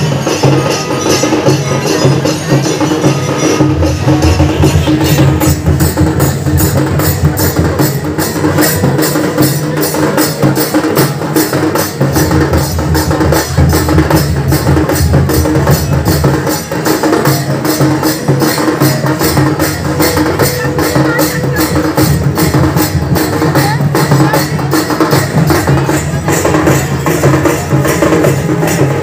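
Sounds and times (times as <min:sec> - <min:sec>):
drums beating fast rhythm: 0:00.0 - 0:29.0.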